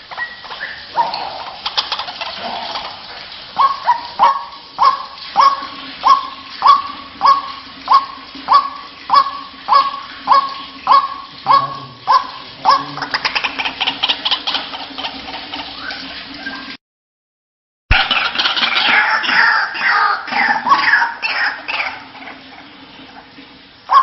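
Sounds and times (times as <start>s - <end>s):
waterhen croaking calls: 0.0s - 16.8s, 17.9s - 24.0s.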